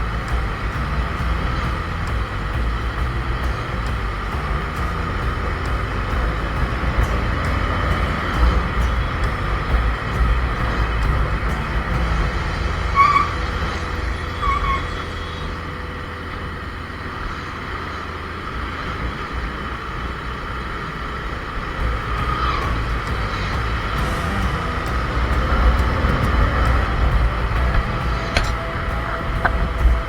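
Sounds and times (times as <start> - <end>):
motorcycle engine and wind rumble: 0.0 - 30.0
truck traffic: 0.0 - 30.0.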